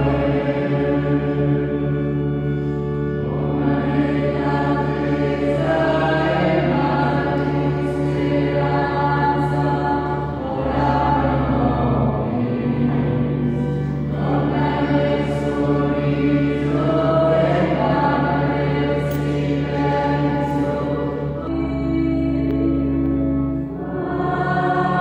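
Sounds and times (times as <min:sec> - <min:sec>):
group singing a slow hymn: 0:00.0 - 0:25.0.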